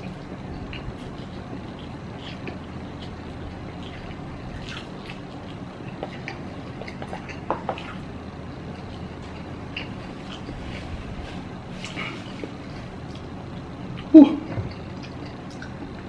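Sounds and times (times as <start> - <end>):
low background hum: 0.0 - 16.0
man chewing with wet smacks: 0.0 - 16.0.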